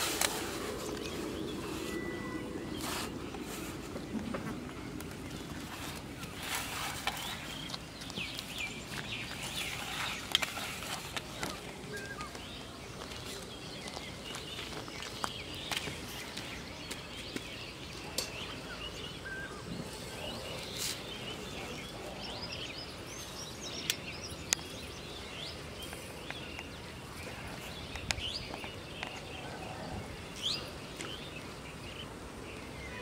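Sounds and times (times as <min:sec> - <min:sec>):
small birds chirping: 0:00.0 - 0:33.0
steady low hiss: 0:00.0 - 0:33.0.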